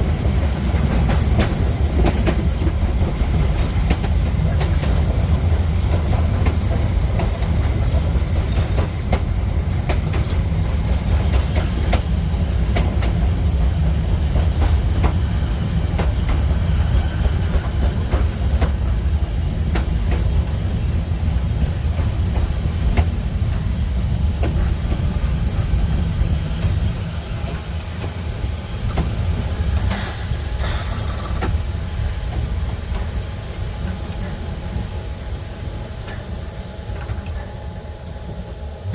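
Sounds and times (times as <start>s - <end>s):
hissing steam: 0.0s - 38.9s
steam train rumbling: 0.0s - 38.9s.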